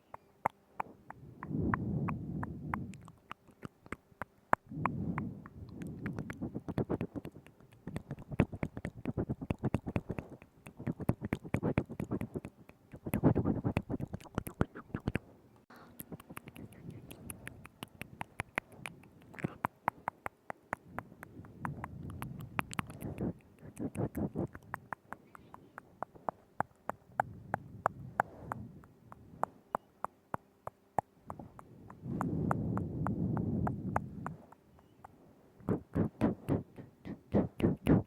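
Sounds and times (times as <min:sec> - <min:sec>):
tongue clicks and lip smacks: 0:00.0 - 0:15.2, 0:15.8 - 0:38.0.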